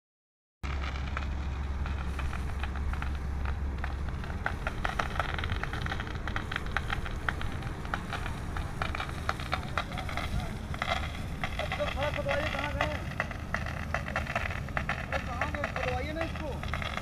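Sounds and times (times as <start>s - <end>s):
crackle of sharp snaps: 0.6s - 17.0s
steady low hum: 0.6s - 17.0s
fire hose spraying water: 0.7s - 17.0s.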